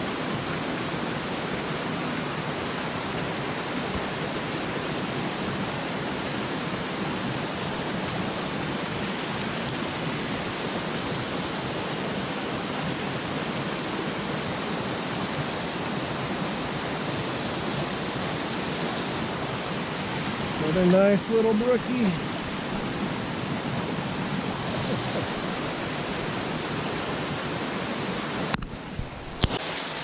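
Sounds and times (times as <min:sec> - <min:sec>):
brook rushing over cascades: 0:00.0 - 0:30.0.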